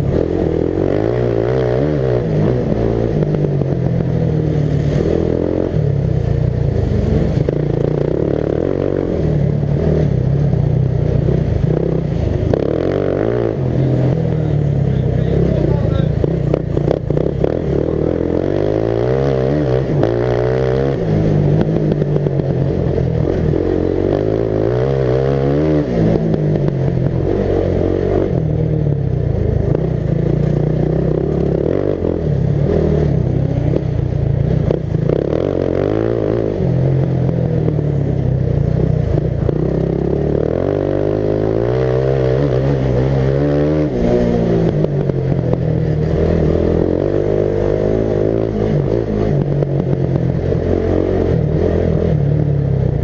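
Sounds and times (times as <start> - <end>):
ride-on mower engine revving: 0.0 - 53.0.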